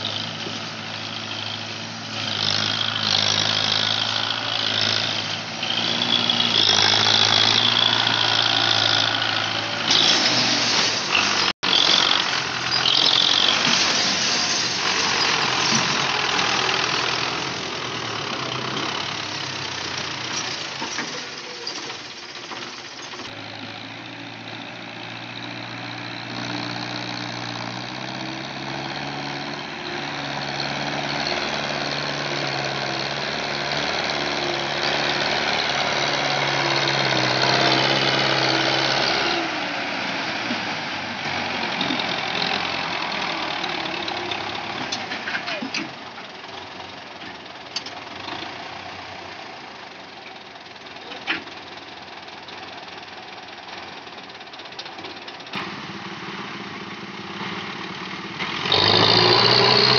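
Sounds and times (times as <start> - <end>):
tractor diesel engine labouring: 0.0 - 59.9.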